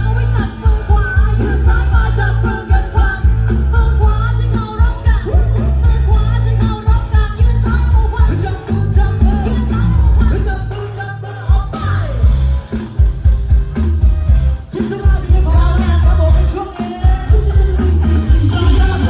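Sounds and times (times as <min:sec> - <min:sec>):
heavy pounding bass beat: 0:00.0 - 0:10.7, 0:11.5 - 0:19.0.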